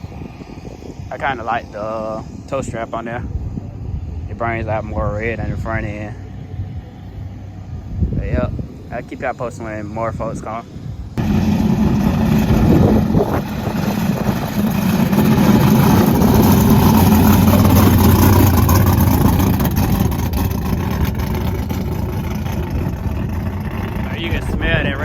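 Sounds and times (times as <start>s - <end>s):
race car engine rumble: 0.0s - 25.0s.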